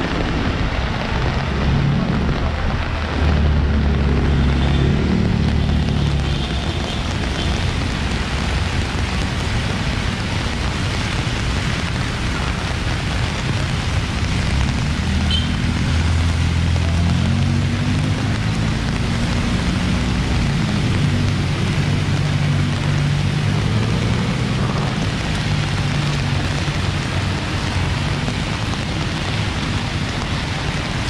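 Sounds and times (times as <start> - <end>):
heavy rain on wet street: 0.0 - 31.0
road traffic rumble: 0.0 - 31.0.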